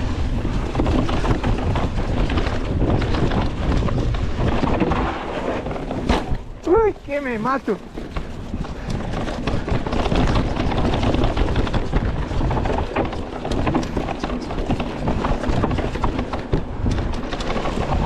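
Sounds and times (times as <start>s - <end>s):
bike clattering over bumps: 0.0s - 18.0s
low tyre rumble: 0.0s - 18.0s.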